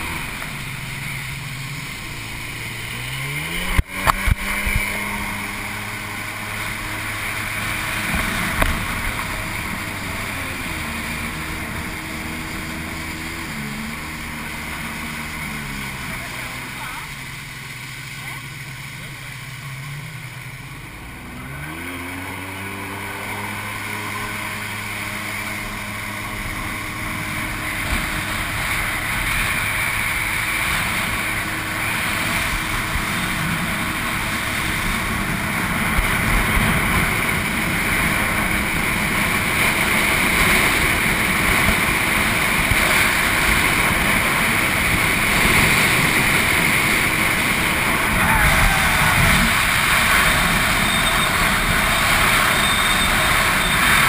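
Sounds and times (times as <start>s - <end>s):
jet ski engine revving: 0.0s - 54.0s
wind and water rushing: 0.0s - 54.0s.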